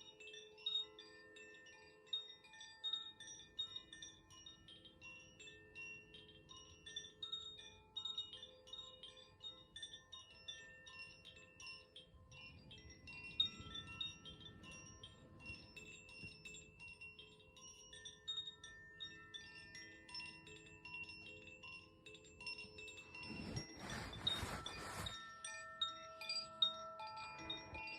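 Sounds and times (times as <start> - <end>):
wind chime tinkling: 0.0 - 27.9.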